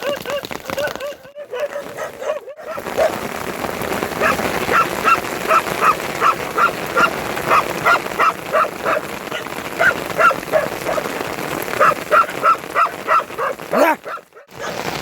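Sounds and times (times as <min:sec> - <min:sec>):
dog barking: 0:00.0 - 0:14.9
heavy rain hissing: 0:01.8 - 0:15.0.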